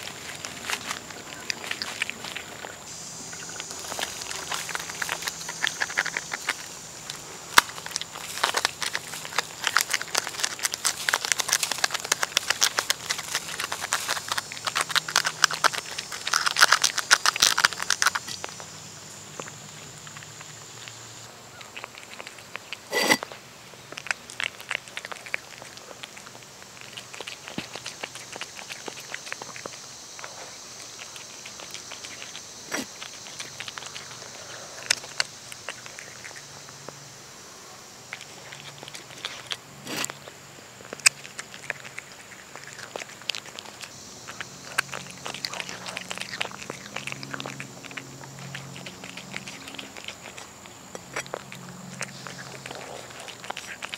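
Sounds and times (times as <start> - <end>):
cat chewing wet food: 0.0 - 53.9
high insect buzz: 2.1 - 21.4, 27.2 - 53.9.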